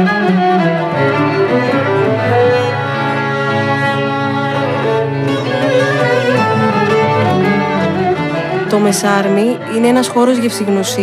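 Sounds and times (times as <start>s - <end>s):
bowed string music: 0.0s - 11.0s.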